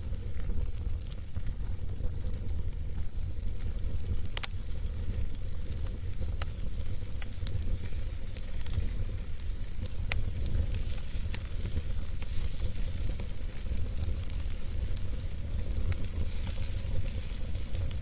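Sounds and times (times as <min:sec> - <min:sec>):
burning wood crackling and popping: 0:00.0 - 0:18.0
fire flames rumbling and hissing: 0:00.0 - 0:18.0.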